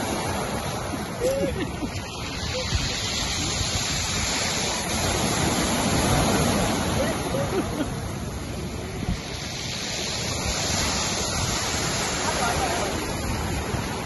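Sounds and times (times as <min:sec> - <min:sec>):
sea surf washing: 0:00.0 - 0:14.0.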